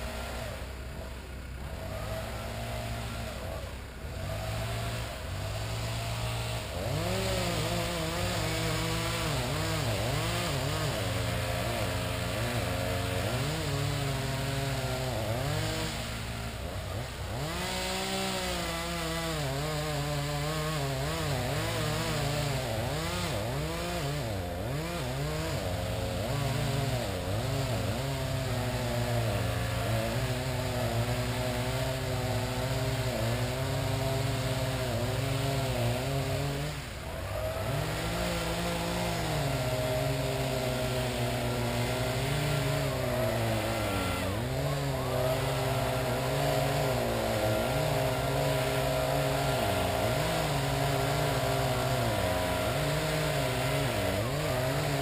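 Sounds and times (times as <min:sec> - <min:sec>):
power equipment engine running: 0:00.0 - 0:55.0.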